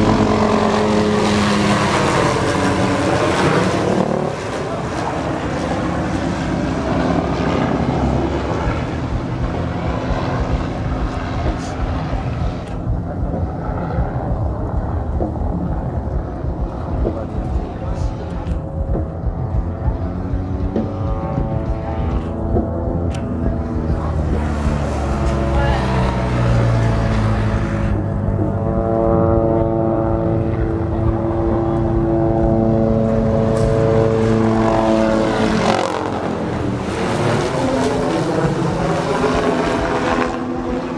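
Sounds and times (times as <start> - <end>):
helicopter flying past: 0.0 - 40.9.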